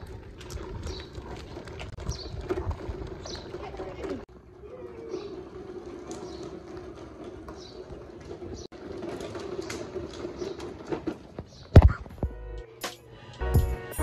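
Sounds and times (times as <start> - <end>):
plastic wheels rolling on asphalt: 0.0 - 12.3.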